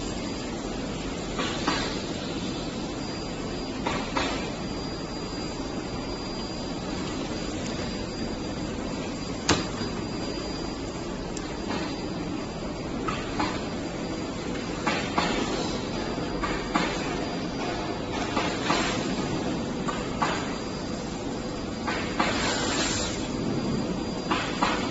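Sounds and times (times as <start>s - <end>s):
workshop background noise: 0.0s - 4.8s, 5.5s - 24.9s.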